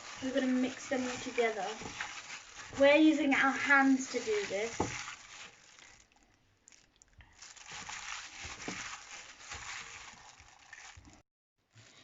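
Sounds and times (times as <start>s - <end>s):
hands squishing meat in marinade: 0.0s - 11.2s.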